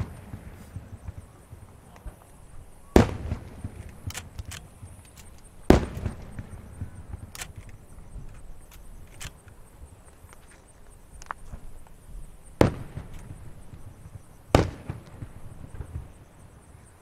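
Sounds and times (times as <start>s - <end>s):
firework booms: 0.0s - 9.1s, 11.4s - 17.0s
firework cracks: 0.0s - 10.5s, 11.2s - 16.5s.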